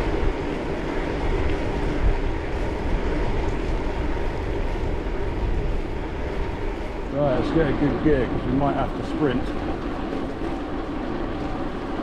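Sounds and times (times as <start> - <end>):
bicycle tyres rolling on tarmac: 0.0 - 12.0
wind on microphone: 0.0 - 12.0.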